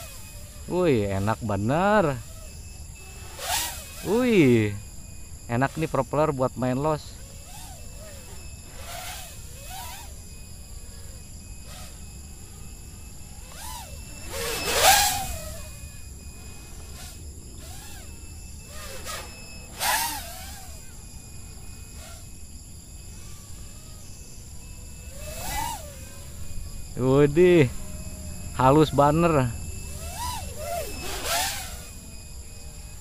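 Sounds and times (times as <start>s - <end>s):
quadcopter motor whine: 0.0s - 33.0s.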